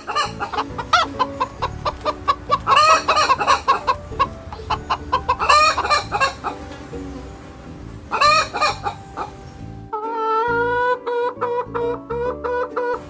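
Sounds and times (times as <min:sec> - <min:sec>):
chicken squawk: 0:00.0 - 0:06.6, 0:08.1 - 0:09.3, 0:09.9 - 0:13.0
chickens clucking: 0:00.0 - 0:13.0.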